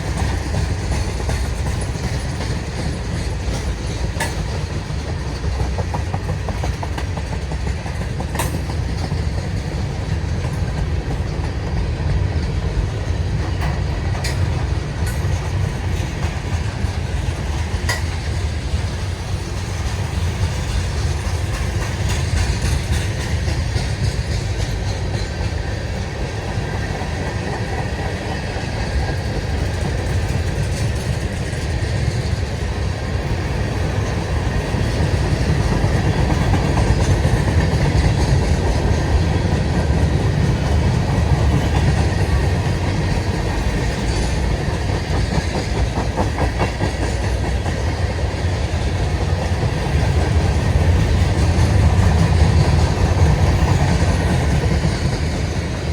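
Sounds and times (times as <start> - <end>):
freight train rumbling on rails: 0.0 - 55.9
train wheels clicking: 0.0 - 55.9.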